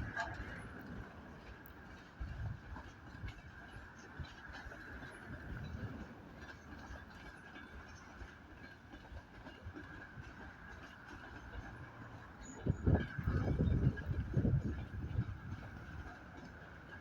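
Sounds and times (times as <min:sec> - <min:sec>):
ship engine low rumble: 0:00.0 - 0:07.4, 0:09.7 - 0:17.0.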